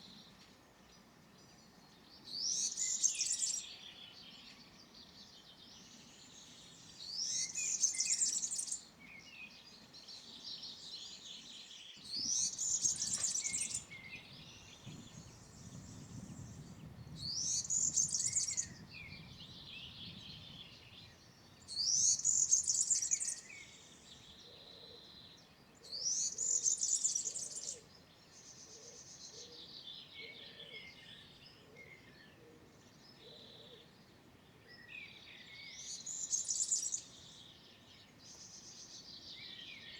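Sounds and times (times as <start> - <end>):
other birds singing softly: 0.0 - 39.9.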